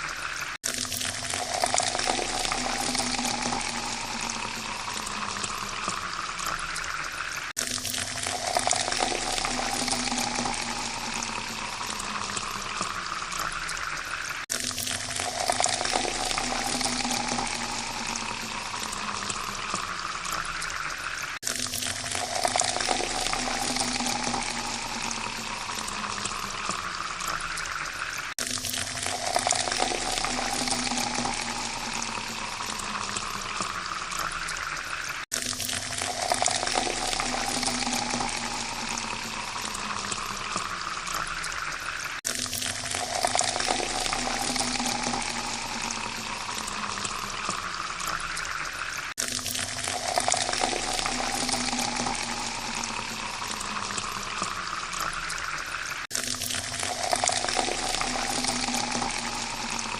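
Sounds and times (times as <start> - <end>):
water pouring into a glass: 0.0 - 59.9.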